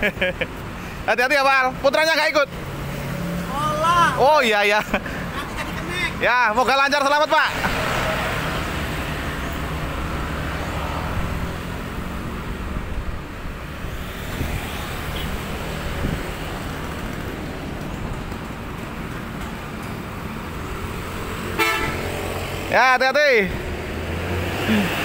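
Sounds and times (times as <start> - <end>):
street traffic passing: 0.0 - 25.0.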